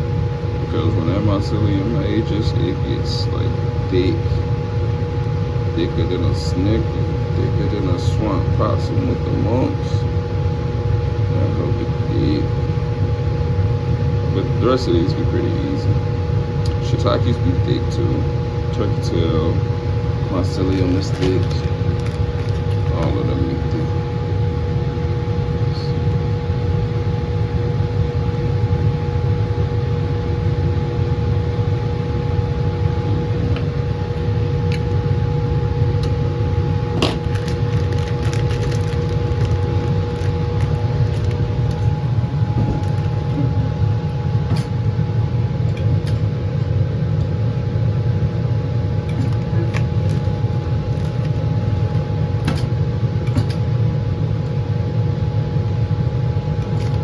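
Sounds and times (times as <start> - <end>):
blower roaring: 0.0 - 54.7
faint steady whine: 0.0 - 57.0.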